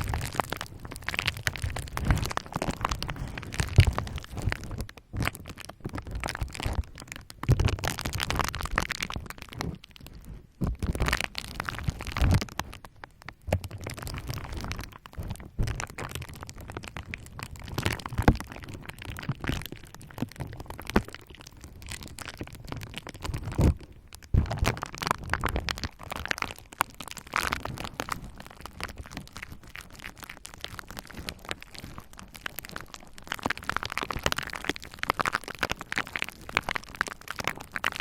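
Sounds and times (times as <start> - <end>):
bubble wrap crackling and popping: 0.0 - 38.0.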